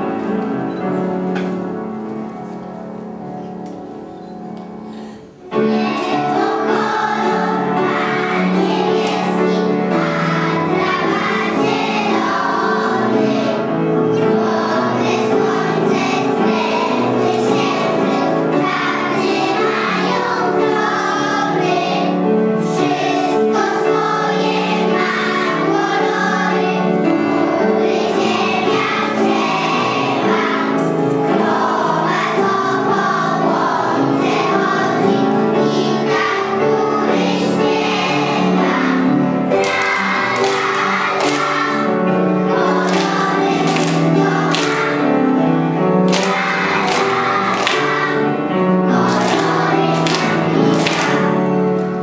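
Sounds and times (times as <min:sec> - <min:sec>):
backing music: 0:00.0 - 0:52.0
children singing together: 0:00.0 - 0:52.0.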